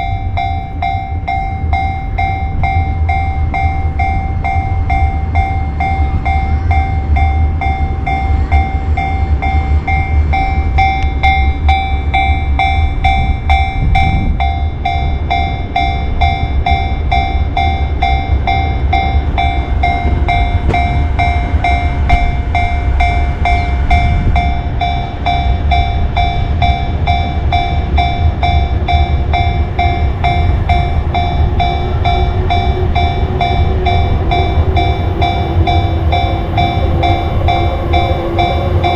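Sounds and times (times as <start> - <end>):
level-crossing alarm bell: 0.0 - 38.9
train rumbling past: 0.0 - 38.9
train wheels clacking: 0.0 - 38.9.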